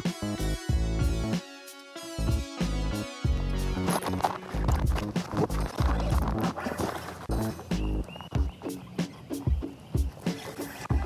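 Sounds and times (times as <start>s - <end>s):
background music with drum beat: 0.0s - 6.8s, 7.4s - 11.0s.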